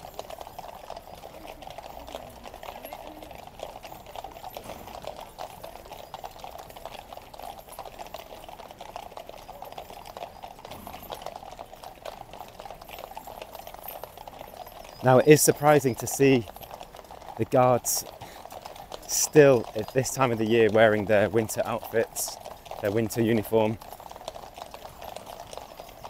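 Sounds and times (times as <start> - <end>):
horse hooves clip-clopping on road: 0.0 - 26.0.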